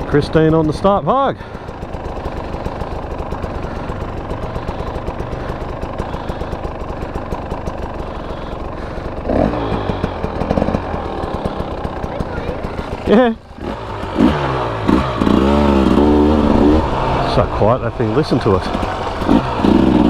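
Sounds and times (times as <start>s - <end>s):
dirt bike engine running at low revs: 0.0s - 20.0s.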